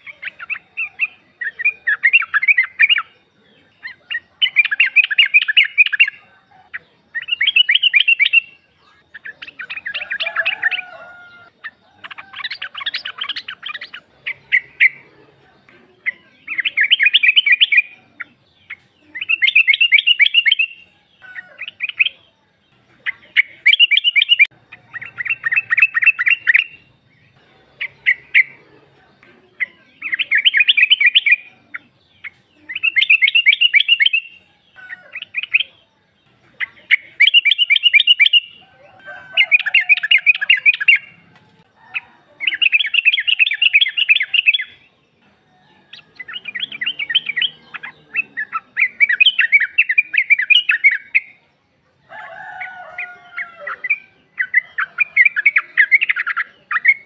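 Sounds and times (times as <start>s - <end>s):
bird chattering: 0.0s - 57.0s.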